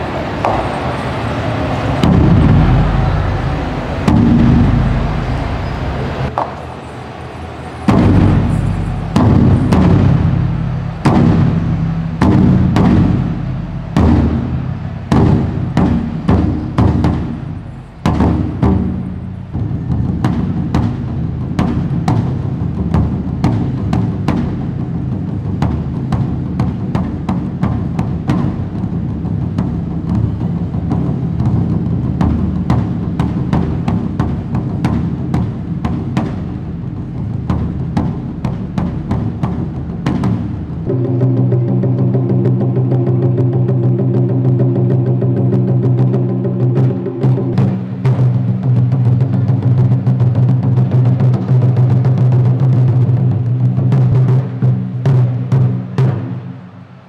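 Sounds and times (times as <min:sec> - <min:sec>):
taiko drums beaten with sticks: 0:00.0 - 0:57.0.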